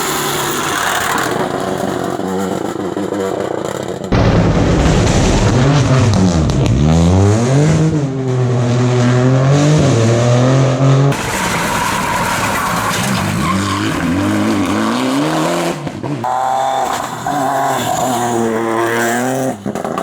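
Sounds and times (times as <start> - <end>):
rally car engine revving: 0.0 - 20.0
tyre and road noise: 0.0 - 20.0.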